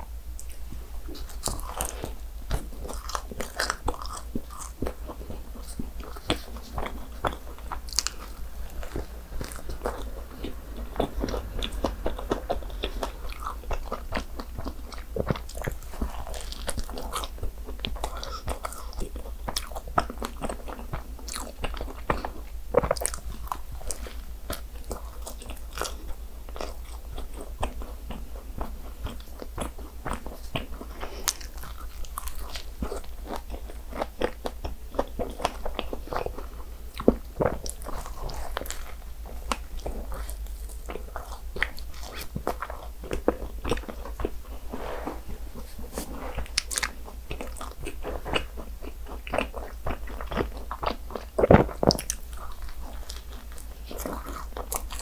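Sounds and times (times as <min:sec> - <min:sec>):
steady low hum: 0:00.0 - 0:55.0
pastry crunching while chewing: 0:00.3 - 0:44.6, 0:45.3 - 0:55.0.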